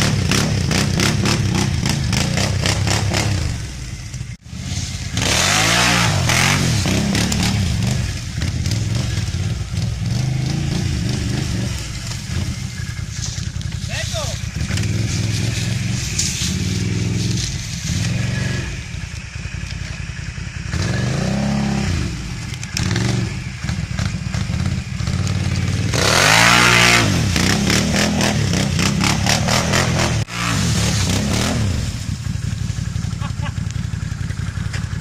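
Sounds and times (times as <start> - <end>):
quad engine revving: 0.0 - 35.0.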